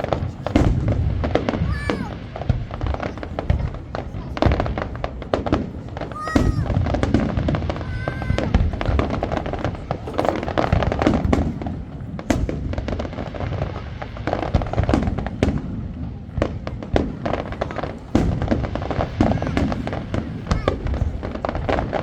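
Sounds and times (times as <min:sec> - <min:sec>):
fireworks bangs and crackling: 0:00.0 - 0:22.0
fireworks whistling: 0:00.0 - 0:22.0.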